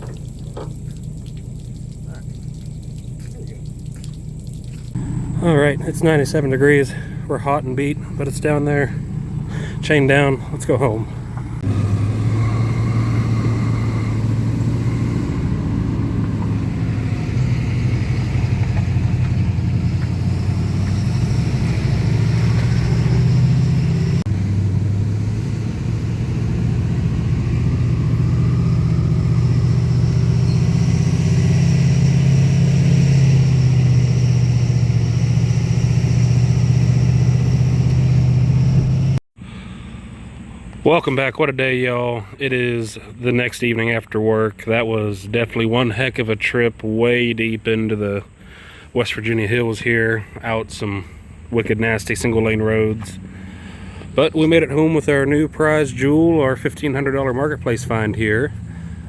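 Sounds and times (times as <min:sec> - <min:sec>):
truck engine and road drone: 0:00.0 - 0:59.0.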